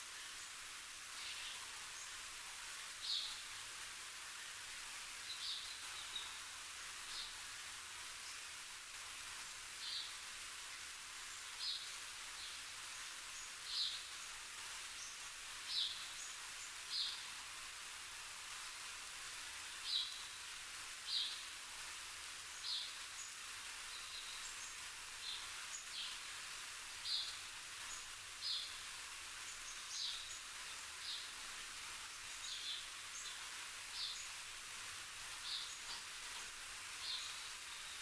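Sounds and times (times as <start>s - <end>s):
steady outdoor hiss: 0.0s - 38.0s.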